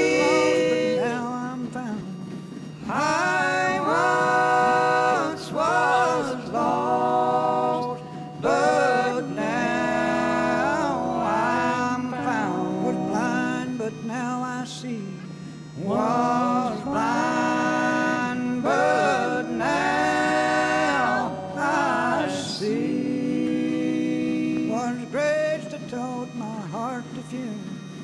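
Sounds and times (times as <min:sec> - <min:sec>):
person singing long held notes: 0:00.0 - 0:27.7.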